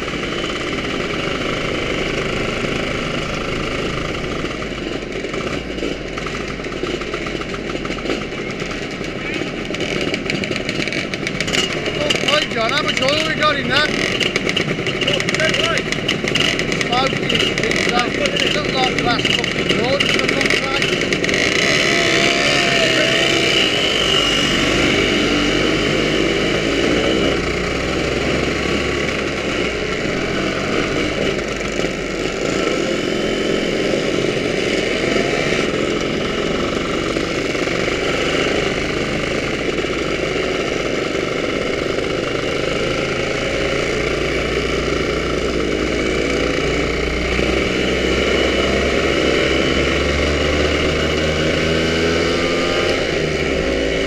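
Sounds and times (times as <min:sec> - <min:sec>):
scooter engines running: 0:00.0 - 0:54.0.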